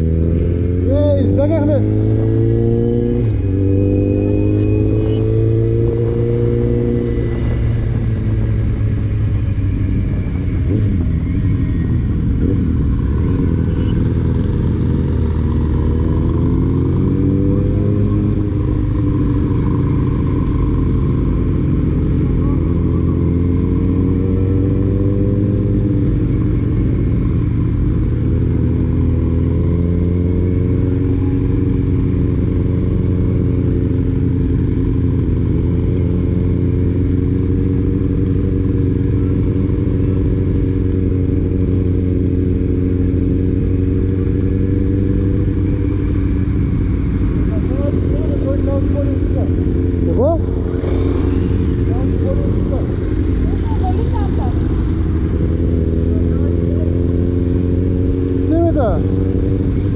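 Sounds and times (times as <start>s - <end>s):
motorcycle engines running: 0.0s - 59.9s
wind and road noise: 0.0s - 59.9s.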